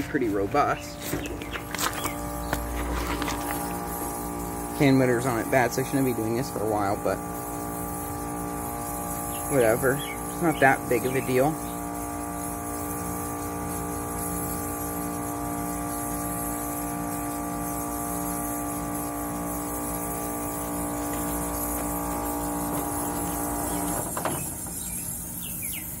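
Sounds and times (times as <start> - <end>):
dehumidifier compressor hum: 0.0 - 26.0.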